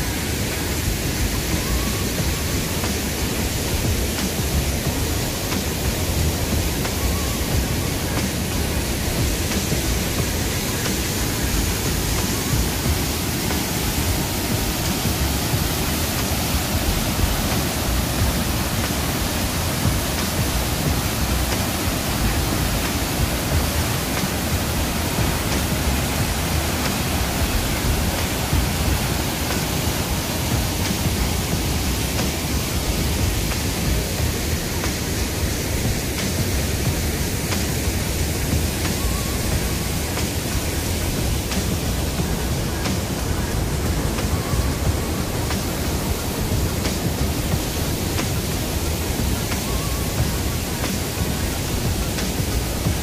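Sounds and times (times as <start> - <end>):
waterfall rushing over rock: 0.0 - 53.0.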